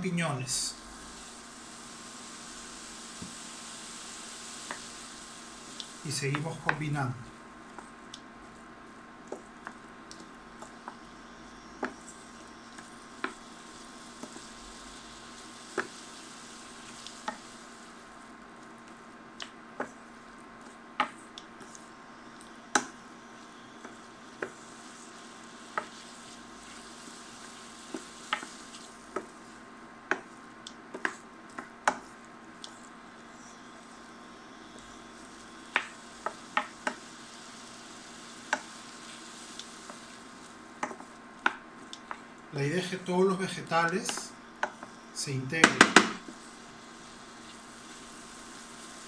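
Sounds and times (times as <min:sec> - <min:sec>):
vegetables sizzling in butter: 0:00.0 - 0:49.0.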